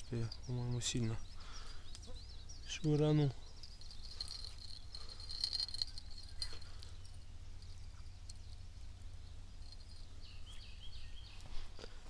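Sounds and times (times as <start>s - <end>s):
high insect chirring: 0.0s - 11.2s.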